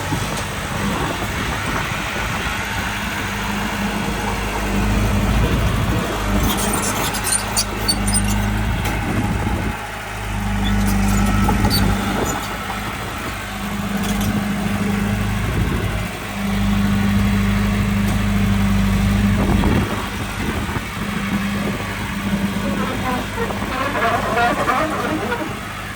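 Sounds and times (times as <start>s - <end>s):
heavy machinery diesel engine: 0.0s - 25.9s.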